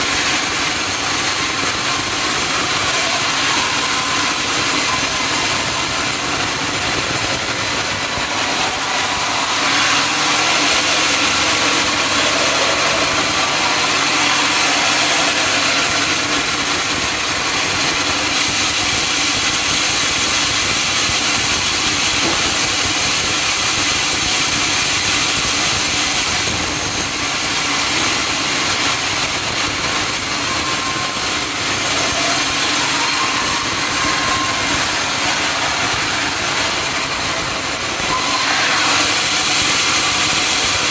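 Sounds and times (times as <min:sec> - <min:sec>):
sawmill machinery running: 0:00.0 - 0:40.9
saw cutting hiss: 0:00.1 - 0:19.7, 0:25.4 - 0:40.9.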